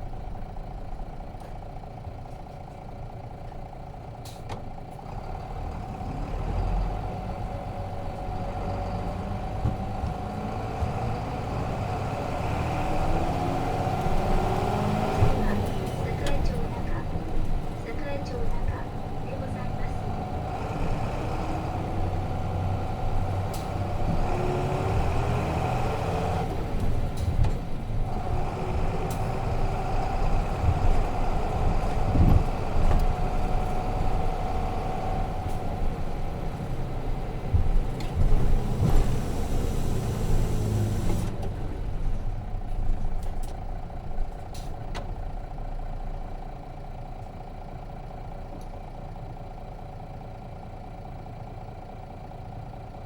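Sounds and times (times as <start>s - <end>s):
diesel bus engine: 0.0s - 53.0s.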